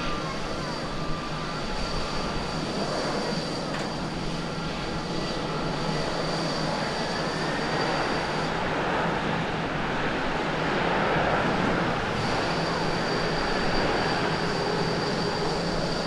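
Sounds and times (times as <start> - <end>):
jet engine rushing noise: 0.0 - 16.0.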